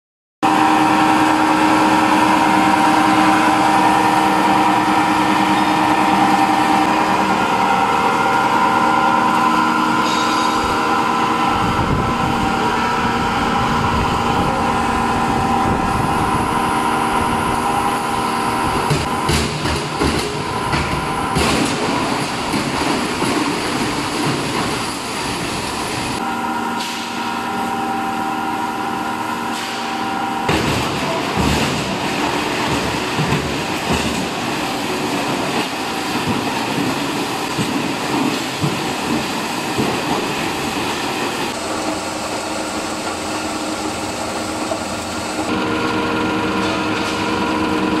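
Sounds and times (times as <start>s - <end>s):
machine humming: 0.4s - 37.7s, 41.0s - 48.0s.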